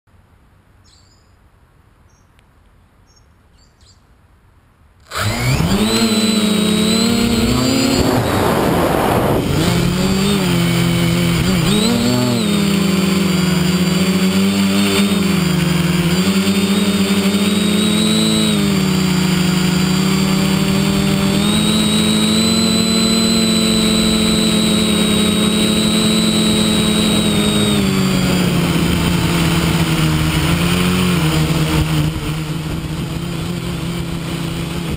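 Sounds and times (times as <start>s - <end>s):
quadcopter motors buzzing whine: 5.0s - 34.9s.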